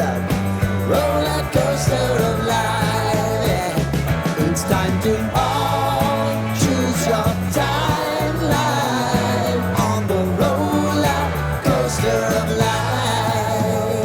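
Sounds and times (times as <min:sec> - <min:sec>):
pop-rock song: 0:00.0 - 0:14.0.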